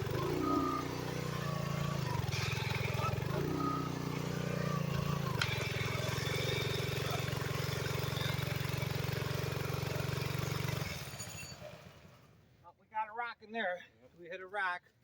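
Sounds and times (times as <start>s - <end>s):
post hole auger engine: 0.0s - 12.3s.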